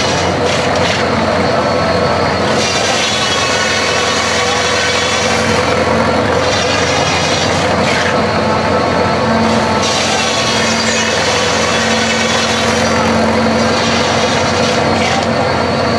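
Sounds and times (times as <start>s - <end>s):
circular saw cutting wood: 0.0s - 15.9s
engine running steadily: 0.0s - 15.9s.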